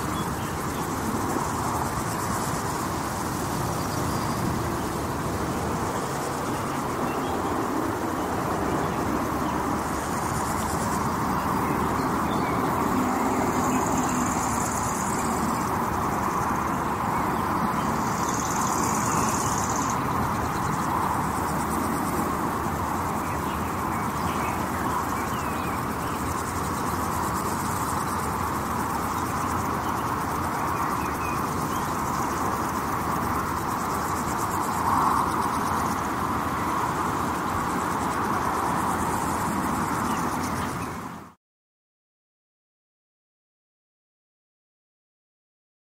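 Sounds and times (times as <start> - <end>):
high insect buzzing: 0.0 - 41.1
highway traffic drone: 0.0 - 41.4.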